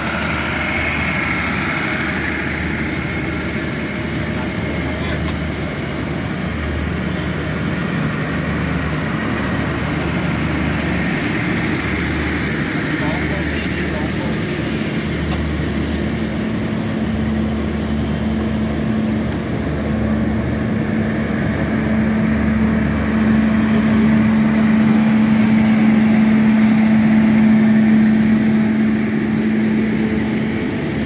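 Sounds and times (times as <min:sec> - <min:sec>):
train coaches rumbling past: 0:00.0 - 0:31.0.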